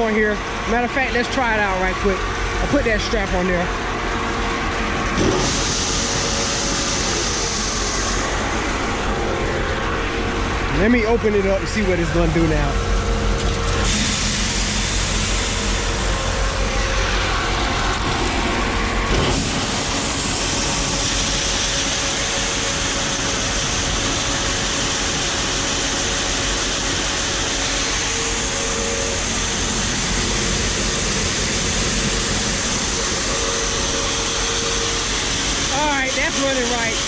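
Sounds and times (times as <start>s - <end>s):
grain dryer machinery running: 0.0s - 37.0s.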